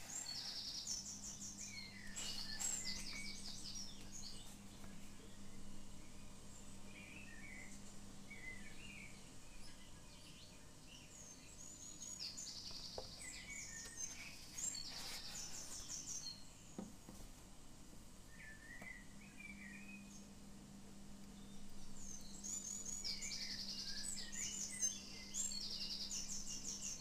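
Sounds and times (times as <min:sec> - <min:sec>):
faint steady low hum: 0:00.0 - 0:27.0
small birds chirping and twittering: 0:00.0 - 0:27.0.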